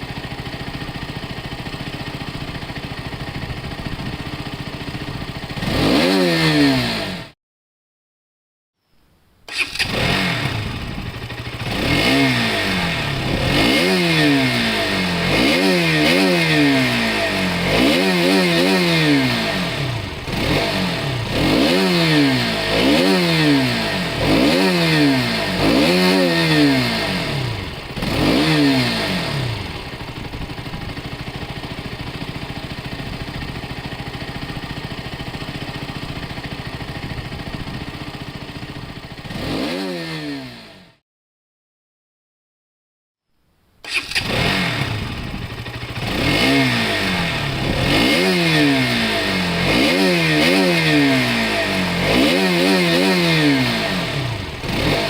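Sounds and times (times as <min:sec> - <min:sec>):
motorcycle engine revving: 0:00.0 - 0:07.4, 0:09.5 - 0:41.0, 0:43.9 - 0:55.0.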